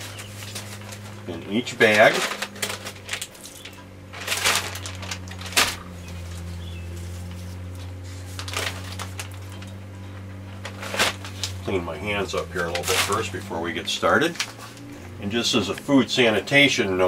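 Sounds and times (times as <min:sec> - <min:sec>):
plastic bags rustling: 0:00.0 - 0:16.3
steady low hum: 0:00.0 - 0:17.0.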